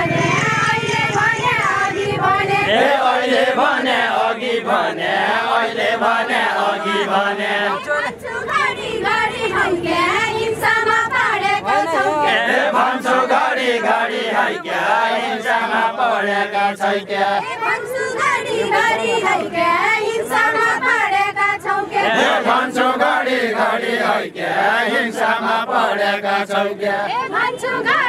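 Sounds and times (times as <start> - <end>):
group of voices singing in chorus: 0.0 - 28.0.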